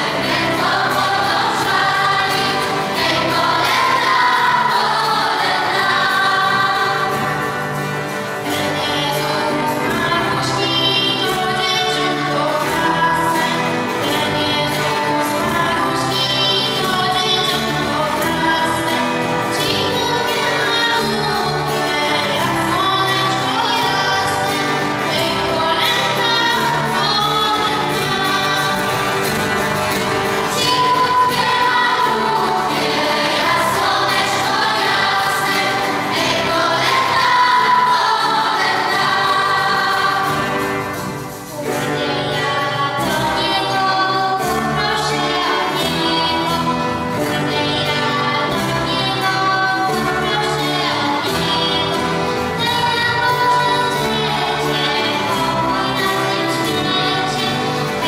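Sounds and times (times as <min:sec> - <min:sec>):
girls' choir singing a carol: 0:00.0 - 0:58.0.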